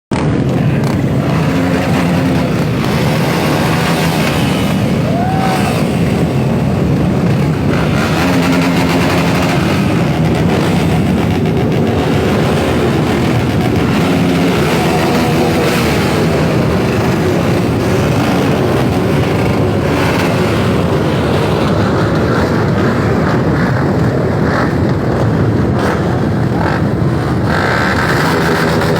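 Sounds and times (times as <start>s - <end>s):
dirt bike engine revving: 0.2s - 28.9s.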